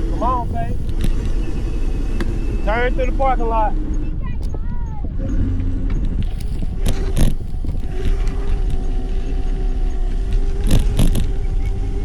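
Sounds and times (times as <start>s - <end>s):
electric motor whine: 0.0s - 4.1s, 5.1s - 12.0s
wind rumble on microphone: 0.0s - 12.0s.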